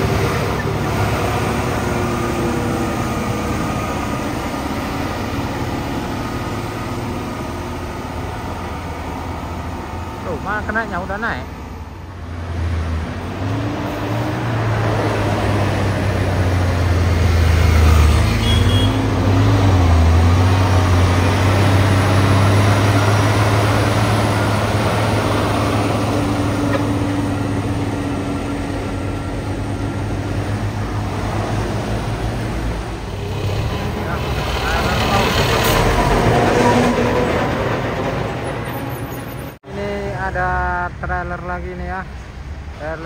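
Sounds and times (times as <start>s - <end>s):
diesel truck engine labouring: 0.0s - 43.0s.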